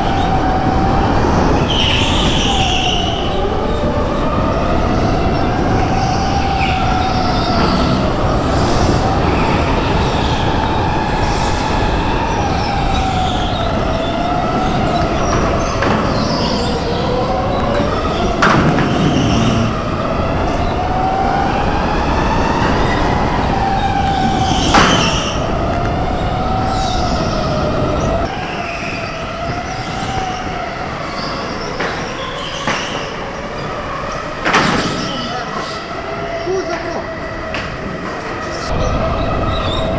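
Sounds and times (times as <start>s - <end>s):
kart rumbling on track: 0.0s - 39.9s.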